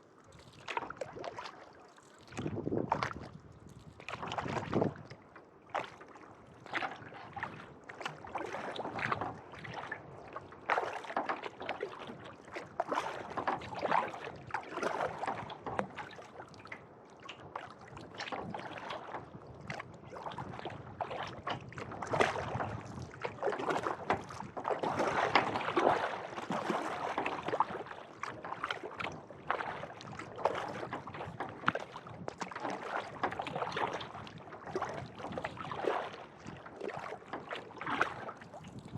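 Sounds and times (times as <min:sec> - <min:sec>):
kayak paddle splashing in water: 0:00.0 - 0:38.9.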